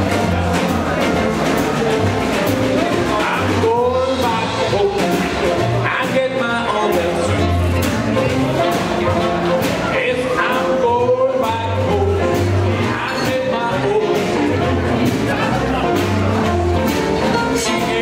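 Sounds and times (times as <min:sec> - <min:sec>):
swing jazz band playing: 0:00.0 - 0:18.0.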